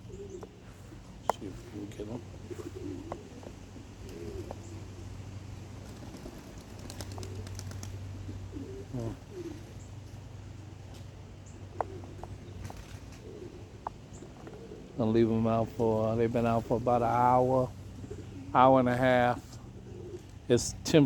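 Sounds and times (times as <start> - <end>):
pigeons cooing softly: 0.0 - 21.0
steady low hum: 0.0 - 21.0.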